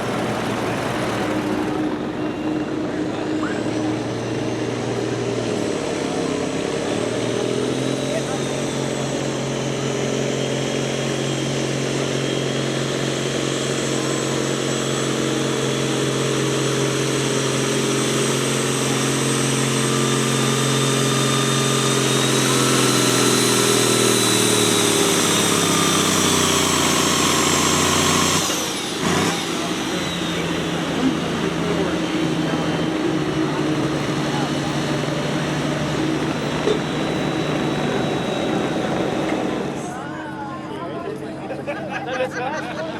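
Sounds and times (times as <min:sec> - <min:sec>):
vehicle engine running hard: 0:00.0 - 0:42.9.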